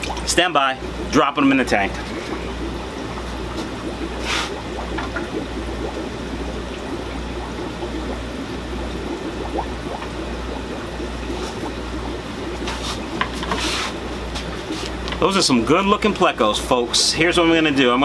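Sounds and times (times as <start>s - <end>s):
aquarium water trickling and bubbling: 0.0s - 18.0s
low steady hum: 0.0s - 18.0s.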